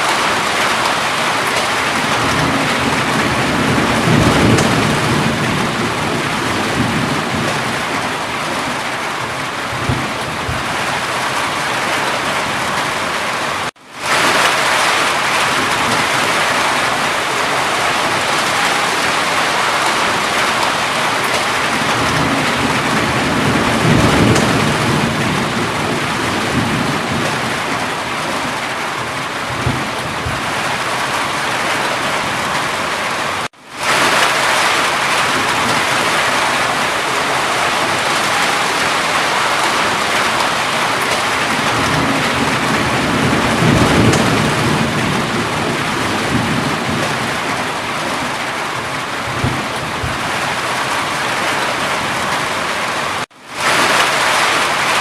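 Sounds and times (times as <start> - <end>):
heavy rain: 0.0 - 55.0
low rolls of thunder: 0.1 - 11.3, 14.1 - 32.2, 33.9 - 50.7.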